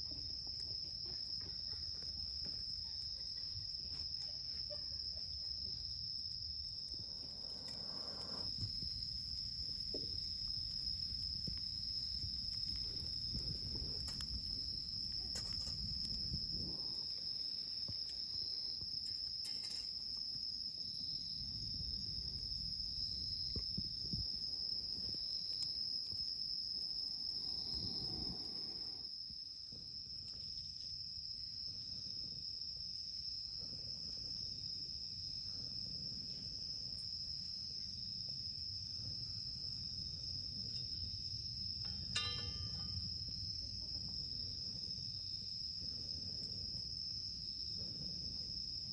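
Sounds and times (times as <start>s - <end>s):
crickets trilling: 0.0s - 48.9s
faint insect chirp: 0.0s - 48.9s.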